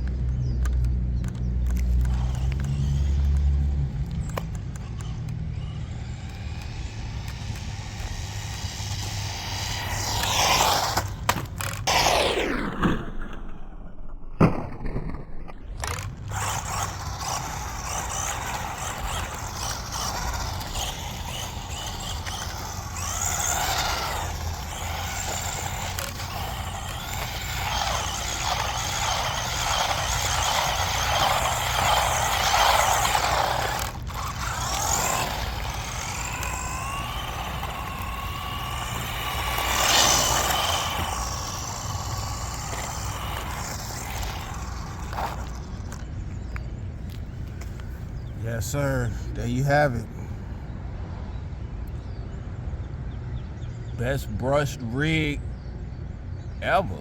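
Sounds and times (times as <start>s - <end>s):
electric motor whining: 0.0s - 50.0s.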